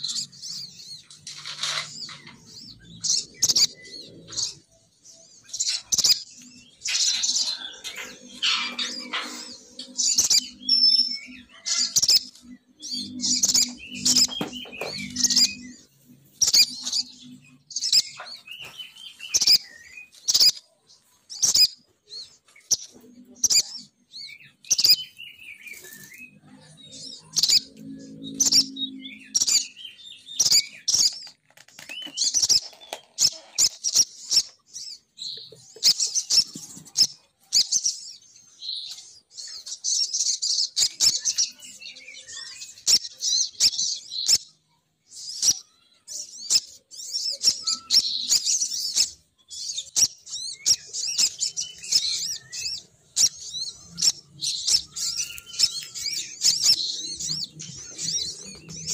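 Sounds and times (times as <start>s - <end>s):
bird chirping and warbling: 0.0s - 58.9s.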